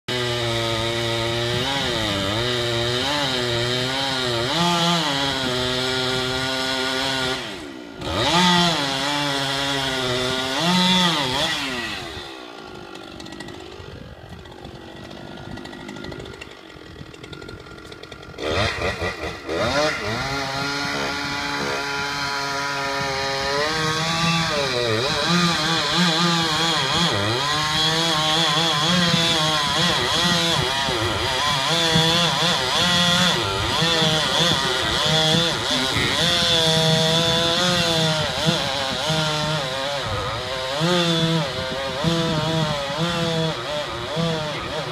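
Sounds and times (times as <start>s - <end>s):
chainsaw cutting a tree: 0.0s - 44.9s.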